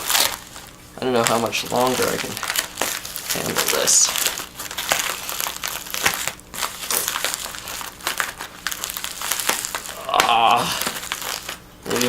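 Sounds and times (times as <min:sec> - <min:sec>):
plastic mailing bag crinkling: 0:00.0 - 0:12.0.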